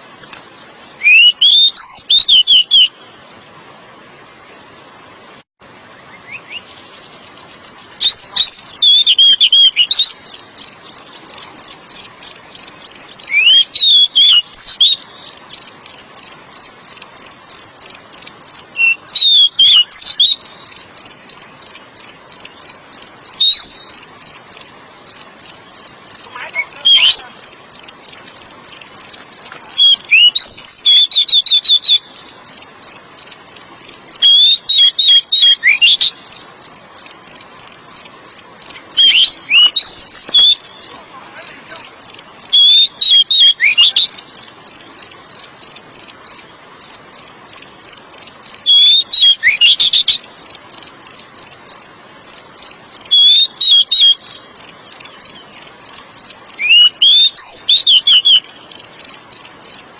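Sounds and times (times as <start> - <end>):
bird whistling song: 1.0 - 3.0, 6.1 - 24.7, 25.4 - 47.3, 47.9 - 59.9
fast cricket-like chirps: 8.0 - 59.9.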